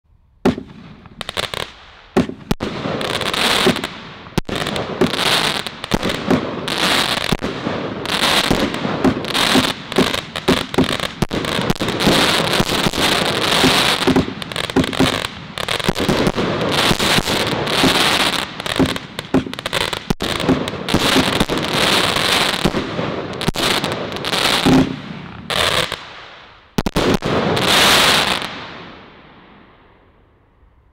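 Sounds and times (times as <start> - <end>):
firework crackling: 0.4 - 29.2.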